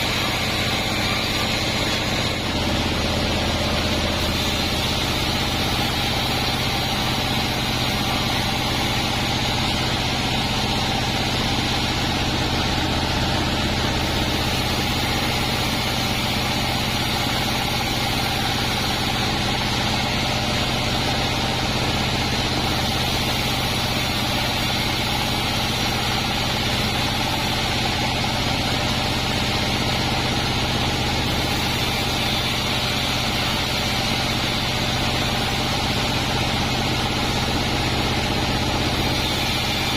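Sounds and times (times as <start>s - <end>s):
band saw machine drone: 0.0s - 39.9s.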